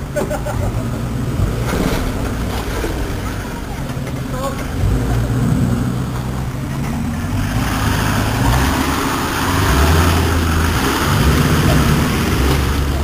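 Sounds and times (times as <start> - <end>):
off-road vehicle engine: 0.0 - 13.0.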